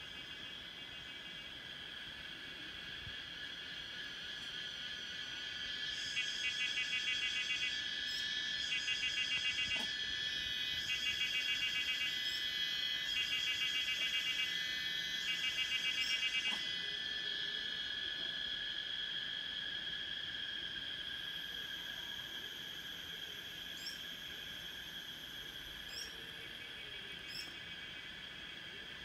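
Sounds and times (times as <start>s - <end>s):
insect pulsing call: 0.0s - 29.0s
insects droning: 0.0s - 29.0s.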